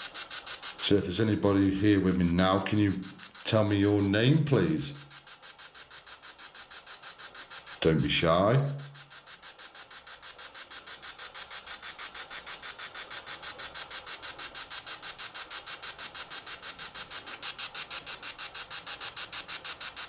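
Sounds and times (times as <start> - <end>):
rapidly pulsing hiss from phone: 0.0 - 20.0.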